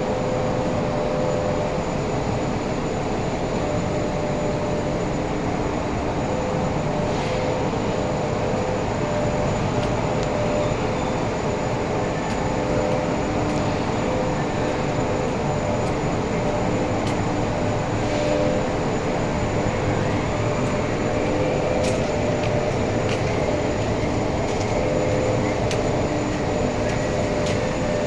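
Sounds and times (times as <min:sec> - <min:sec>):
workshop machinery running: 0:00.0 - 0:28.0.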